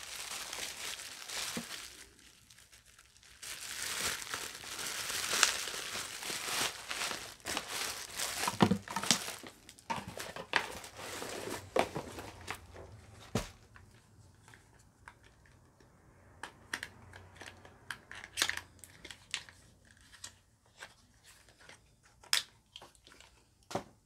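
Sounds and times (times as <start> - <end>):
packaging handled clicks and rustles: 0.0 - 23.7.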